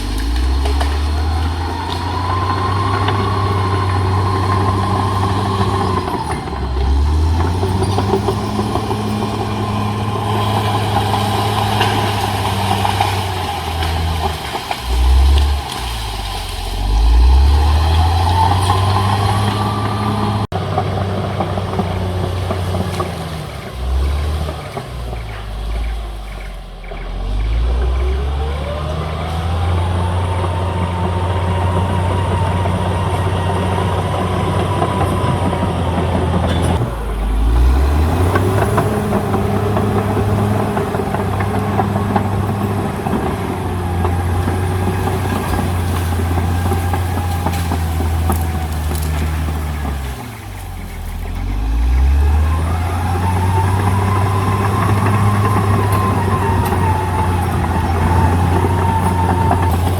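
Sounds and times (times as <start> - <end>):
bulldozer diesel engine working: 0.0 - 59.9
climbing whine: 0.0 - 59.9.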